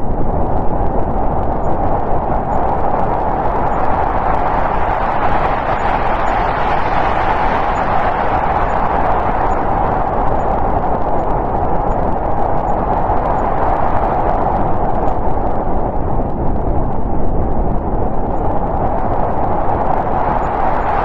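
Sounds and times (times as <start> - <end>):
snowstorm wind blowing: 0.0 - 21.0.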